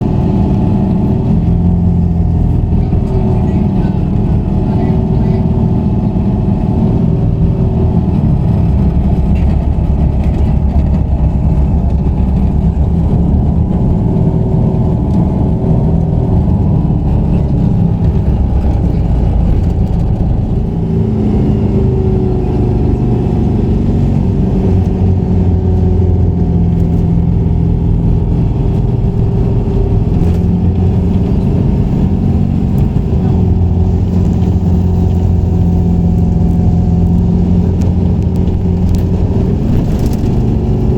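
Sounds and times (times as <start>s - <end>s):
low rumble of machinery: 0.0s - 40.9s.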